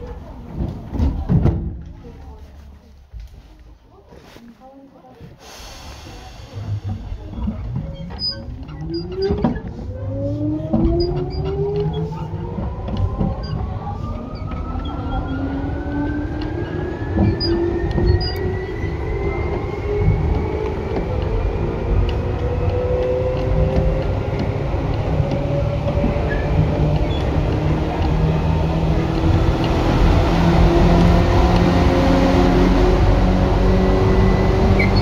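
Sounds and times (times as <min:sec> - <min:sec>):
train running rumble: 0:05.4 - 0:35.0
wheels clicking on track: 0:05.9 - 0:35.0.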